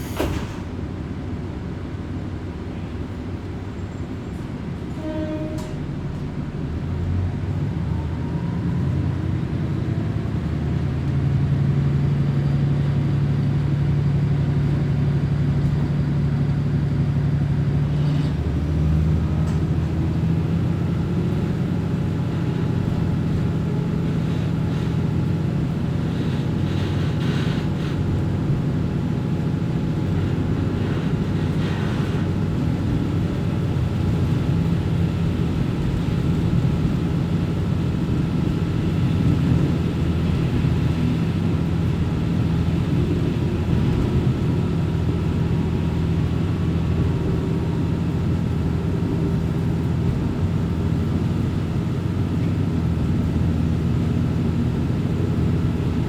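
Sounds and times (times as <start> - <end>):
diesel railcar engine drone: 0.0 - 56.0.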